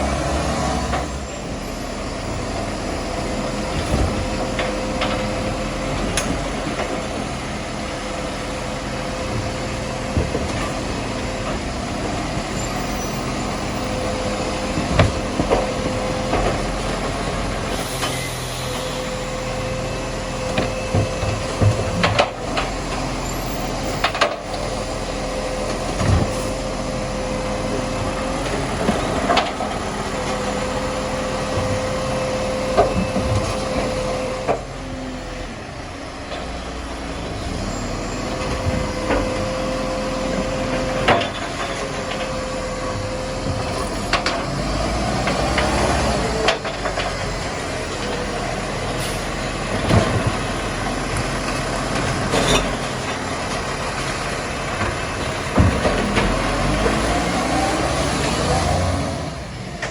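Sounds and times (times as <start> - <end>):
garbage truck mechanical whine: 0.0 - 59.9.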